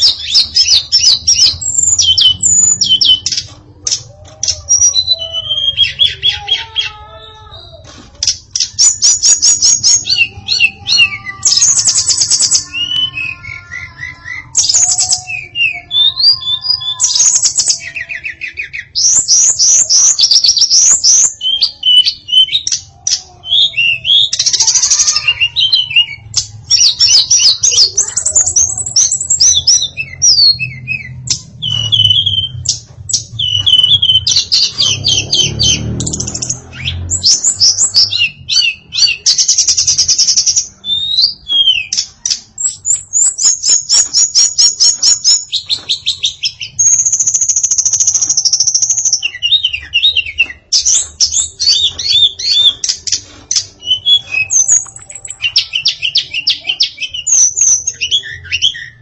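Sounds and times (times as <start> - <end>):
songbird singing chirps and trills: 0.0 - 59.0.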